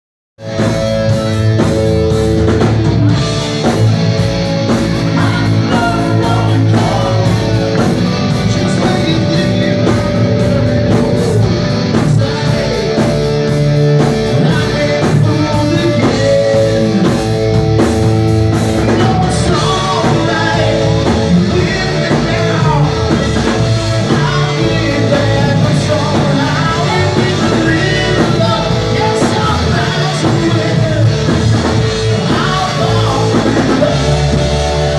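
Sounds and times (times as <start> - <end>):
rock music with singing: 0.4 - 34.9.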